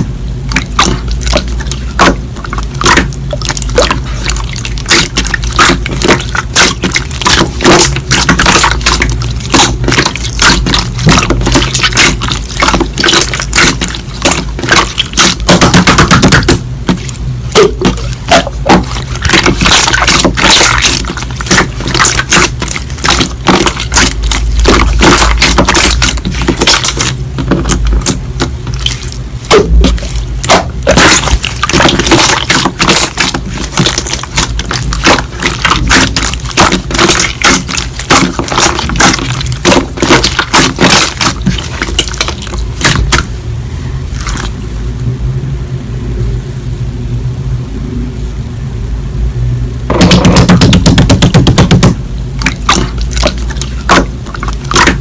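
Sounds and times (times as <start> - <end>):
slime squished by hand: 0.0 - 43.4, 44.1 - 44.6, 49.9 - 55.0.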